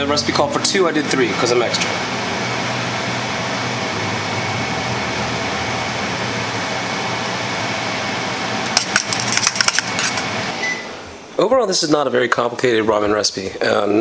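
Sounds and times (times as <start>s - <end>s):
gas burner rushing: 0.0s - 11.3s
range hood fan: 0.0s - 14.0s.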